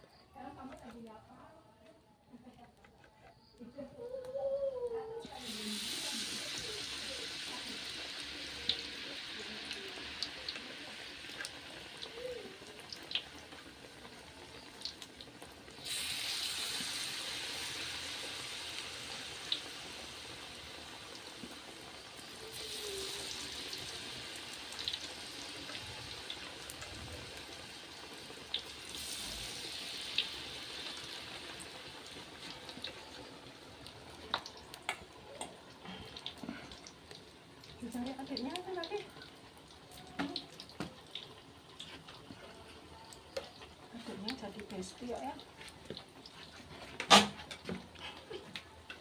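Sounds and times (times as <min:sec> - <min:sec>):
food sizzling in hot oil: 0:04.0 - 0:49.0.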